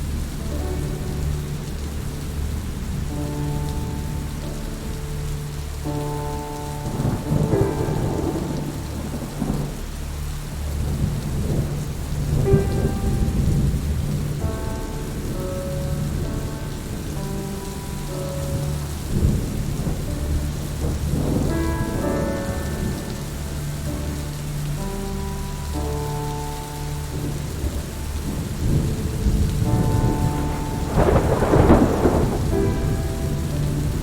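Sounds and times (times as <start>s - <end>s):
heavy rain: 0.0s - 34.0s
soft ambient music: 0.0s - 34.0s
thunder rumbling: 0.0s - 34.0s.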